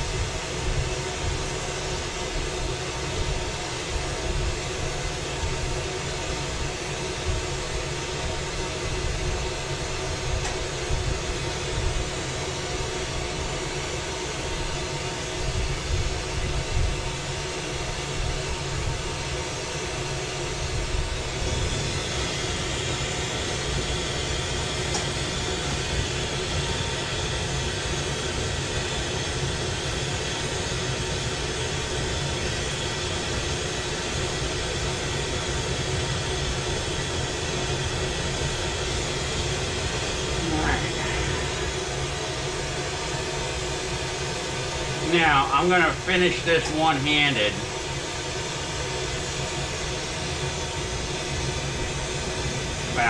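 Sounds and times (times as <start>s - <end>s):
torch flame roaring with hiss: 0.0s - 46.6s, 47.4s - 53.0s.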